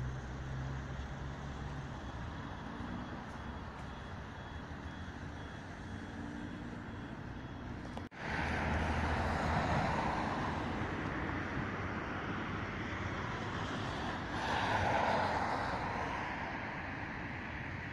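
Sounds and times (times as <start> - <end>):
cars passing: 0.0 - 17.9
steady outdoor hum: 0.0 - 17.9.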